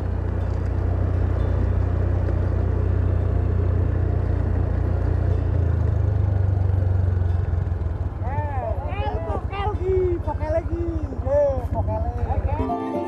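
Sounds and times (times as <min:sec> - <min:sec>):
small motorcycle engine running: 0:00.0 - 0:12.7.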